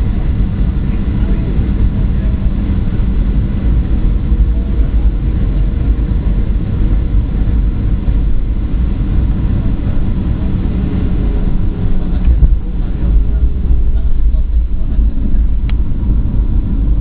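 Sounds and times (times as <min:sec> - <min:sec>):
aircraft engine and airflow rumble: 0:00.0 - 0:17.0.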